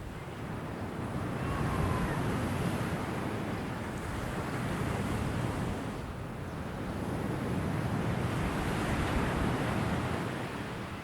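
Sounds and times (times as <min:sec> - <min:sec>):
ocean waves washing onto shore: 0:00.0 - 0:11.0.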